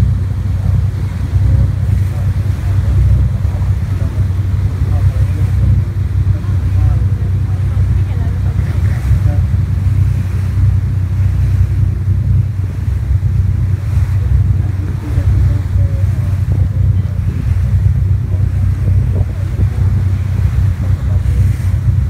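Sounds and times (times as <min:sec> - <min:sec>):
boat engine humming: 0:00.0 - 0:22.0
water washing: 0:00.0 - 0:22.0
wind buffeting microphone: 0:00.0 - 0:22.0.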